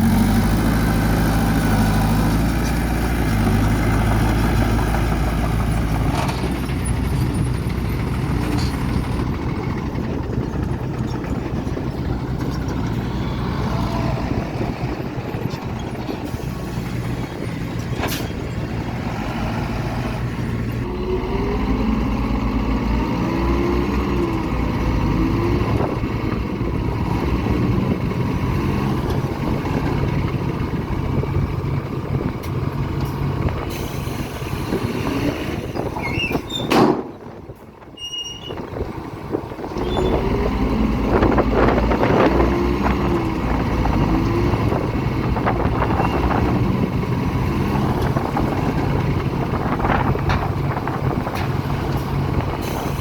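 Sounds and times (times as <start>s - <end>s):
heavy diesel machinery running: 0.0s - 53.0s.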